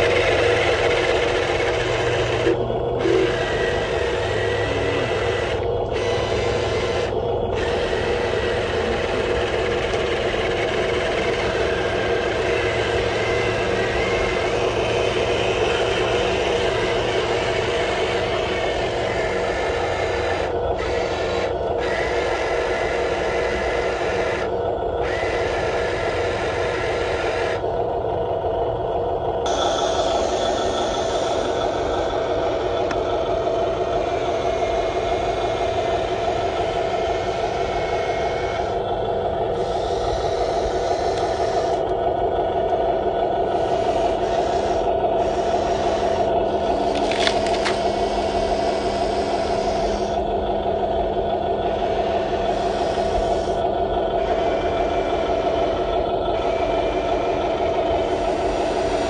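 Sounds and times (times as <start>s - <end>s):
electric motors whirring: 0.0s - 59.0s.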